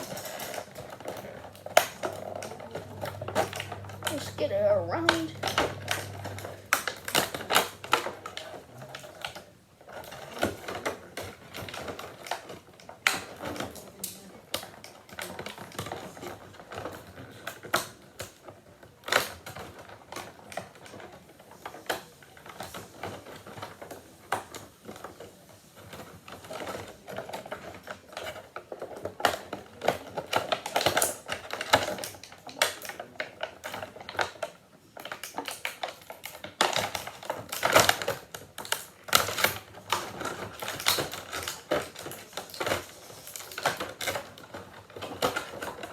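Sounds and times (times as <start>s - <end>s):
plastic packaging crackling: 0.0s - 45.9s.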